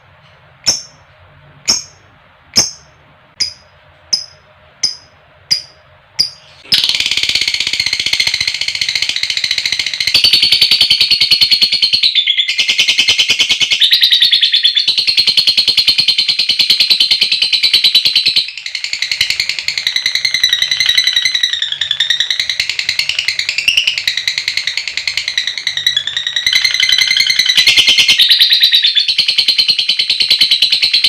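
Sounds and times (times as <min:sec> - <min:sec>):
bird chattering trill: 0:00.7 - 0:01.0, 0:02.6 - 0:31.0.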